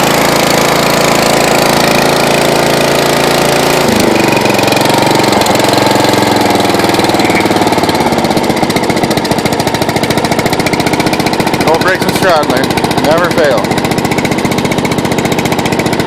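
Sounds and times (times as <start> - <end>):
lawn tractor engine idling unevenly: 0.0 - 16.0.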